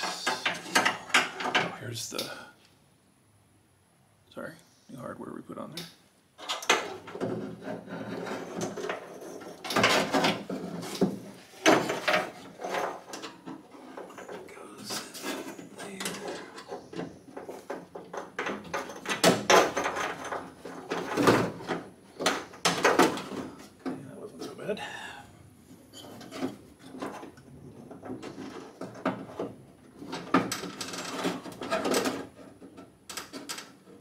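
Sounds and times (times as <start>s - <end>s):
hardware knocking and scraping: 0.0s - 2.3s, 6.4s - 24.7s, 25.6s - 34.0s.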